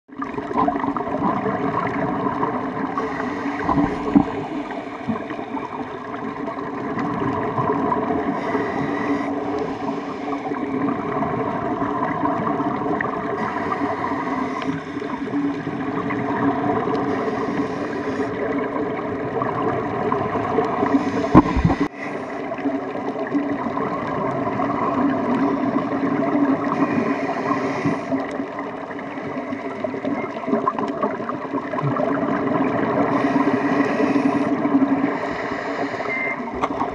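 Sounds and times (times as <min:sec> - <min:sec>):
muffled underwater rumble: 0:00.1 - 0:36.9
diver regulator breathing bubbling: 0:00.2 - 0:19.0, 0:19.8 - 0:23.0, 0:24.0 - 0:31.2, 0:32.0 - 0:36.9.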